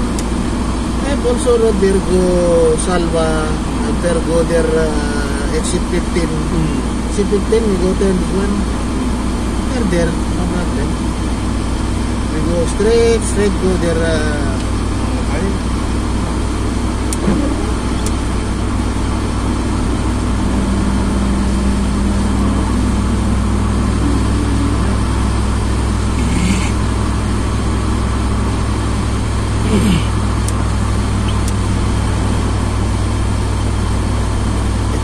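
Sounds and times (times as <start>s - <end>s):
engine and tyre rumble: 0.0s - 35.0s.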